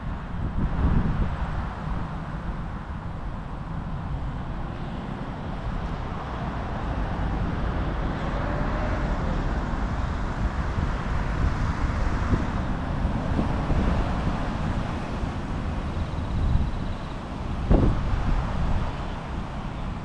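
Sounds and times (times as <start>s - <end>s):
bike tyre and road rumble: 0.0s - 20.0s
traffic noise: 0.0s - 20.0s
wind on microphone: 0.0s - 20.0s.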